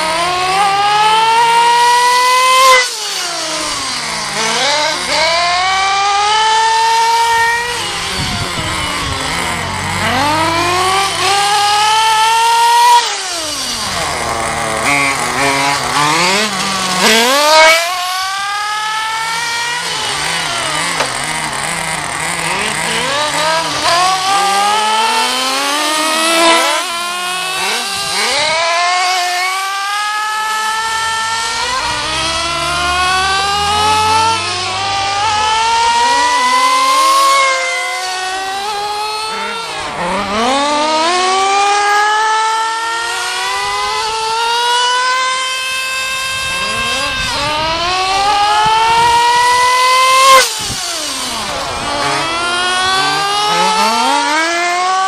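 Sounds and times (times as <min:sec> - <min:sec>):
second engine: 0:00.0 - 0:55.0
small nitro engine revving: 0:00.0 - 0:55.0.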